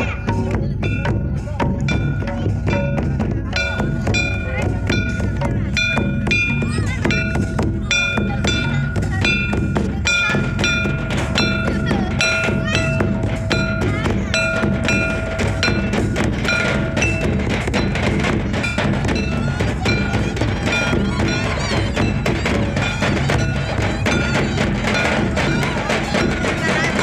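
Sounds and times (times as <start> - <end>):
heavy drum beat: 0.0 - 27.0.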